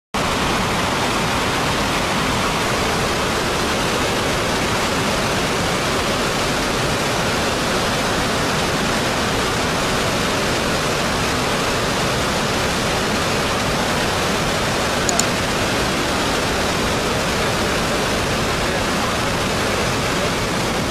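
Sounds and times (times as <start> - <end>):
floodwater rushing over weir: 0.2 - 20.9.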